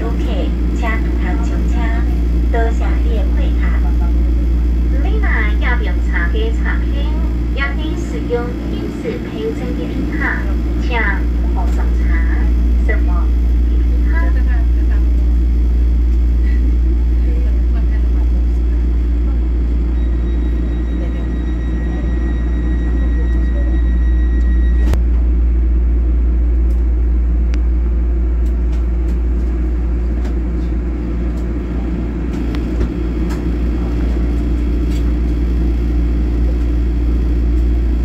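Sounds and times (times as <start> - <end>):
train cabin rumble: 0.0 - 38.0.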